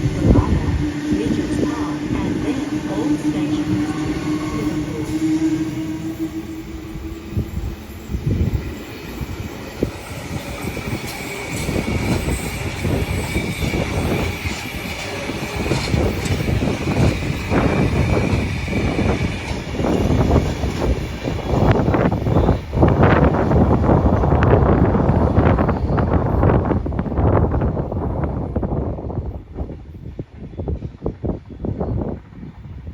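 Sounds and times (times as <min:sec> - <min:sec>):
electric train high whine: 0:00.0 - 0:32.9.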